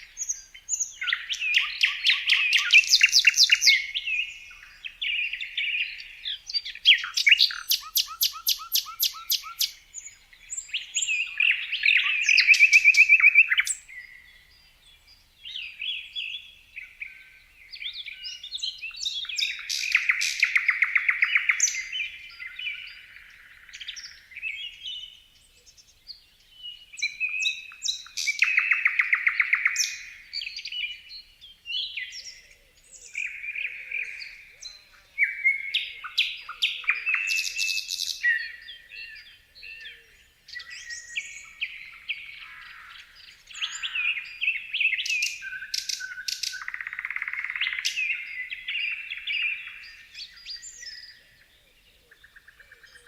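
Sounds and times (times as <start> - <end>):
songbirds trilling and chirping: 0.0 - 53.0.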